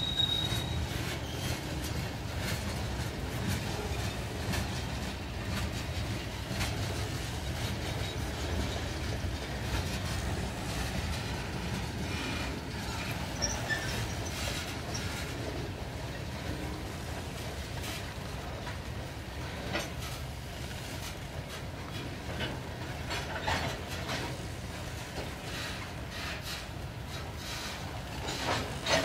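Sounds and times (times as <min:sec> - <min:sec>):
freight train rumbling past: 0:00.0 - 0:29.0
wheels clicking over rails: 0:00.0 - 0:29.0.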